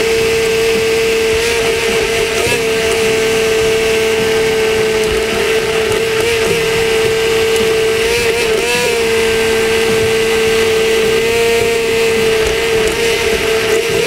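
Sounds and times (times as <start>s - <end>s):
immersion blender motor whine: 0.0s - 14.0s.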